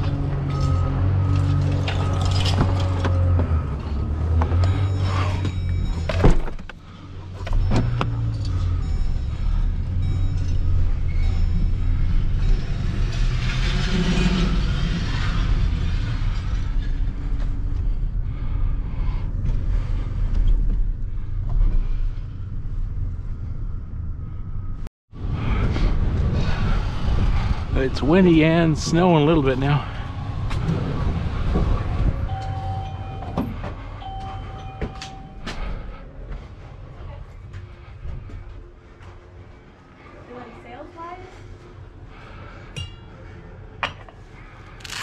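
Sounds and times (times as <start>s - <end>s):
vehicle engine and road rumble: 0.0s - 45.0s.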